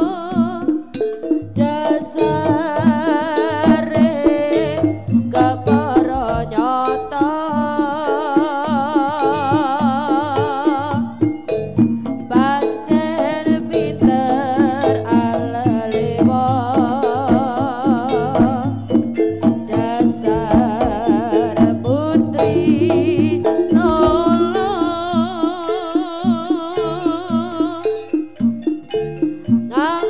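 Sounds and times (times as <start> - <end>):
gamelan music: 0.0 - 30.0.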